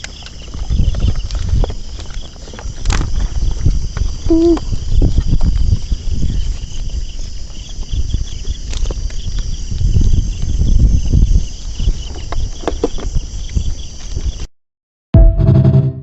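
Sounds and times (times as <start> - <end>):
insects trilling: 0.0 - 14.5.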